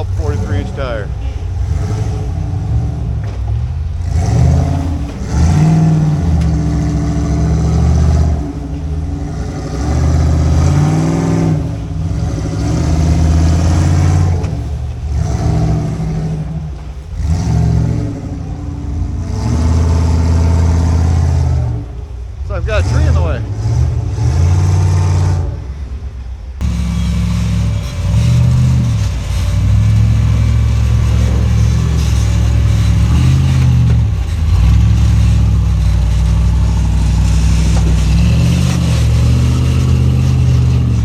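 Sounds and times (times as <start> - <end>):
off-road engine revving: 0.0 - 41.0.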